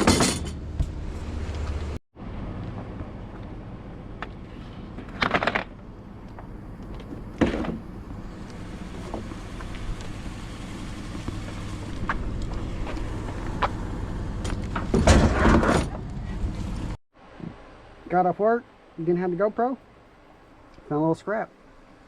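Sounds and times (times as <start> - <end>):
vehicle engine and road rumble: 0.0 - 17.8.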